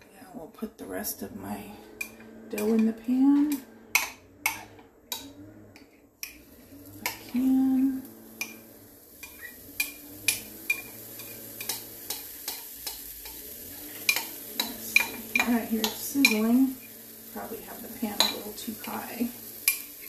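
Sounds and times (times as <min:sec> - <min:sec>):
pancake batter sizzling: 0:03.9 - 0:20.0.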